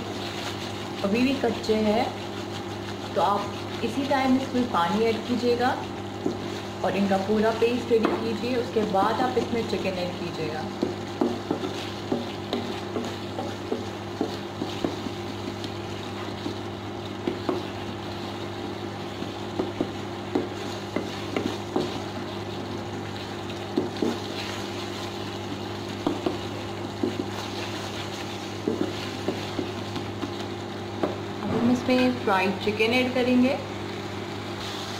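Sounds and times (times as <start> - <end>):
spatula scraping sizzling sauce: 0.0 - 7.9, 8.6 - 31.4, 33.8 - 34.9
cooktop low hum: 0.0 - 34.9.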